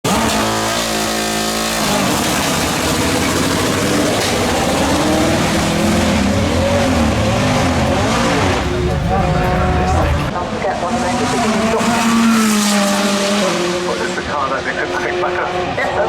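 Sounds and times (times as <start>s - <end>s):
race car engine running hard: 0.1s - 16.0s.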